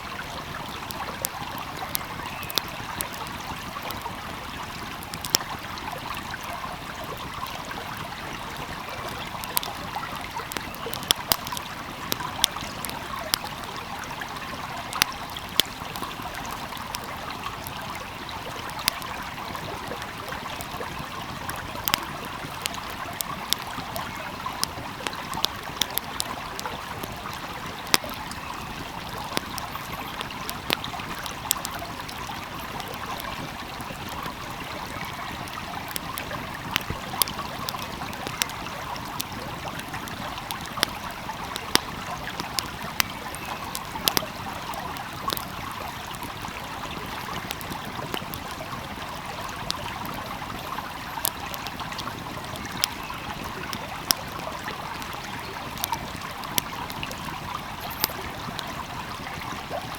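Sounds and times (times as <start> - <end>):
small stream flowing: 0.0 - 59.9
wood fire crackling and popping: 0.0 - 59.9.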